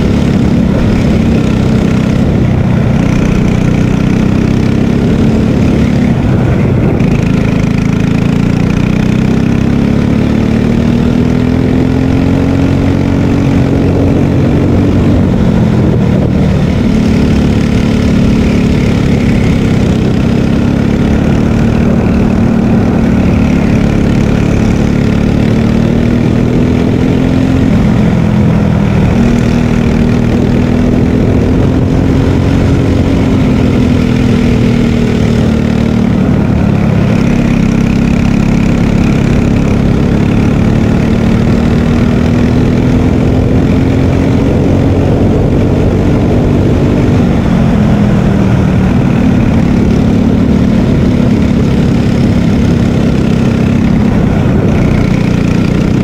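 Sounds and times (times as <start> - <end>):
kart engine running hard: 0.0 - 56.0.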